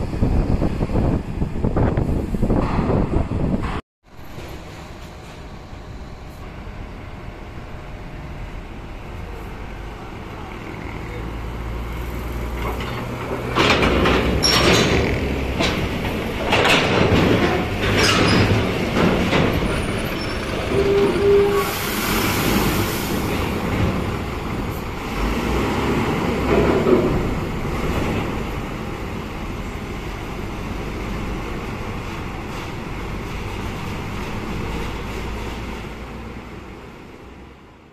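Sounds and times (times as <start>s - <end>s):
bus engine rumble: 0.0s - 37.9s.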